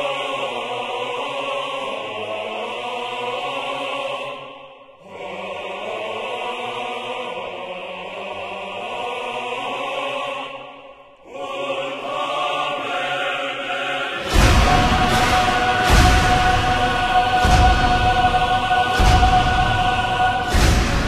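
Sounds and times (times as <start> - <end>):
choral chanting music: 0.0 - 21.0.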